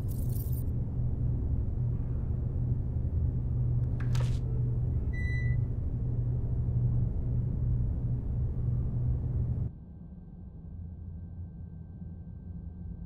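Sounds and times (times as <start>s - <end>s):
low rumbling drone: 0.0s - 13.0s.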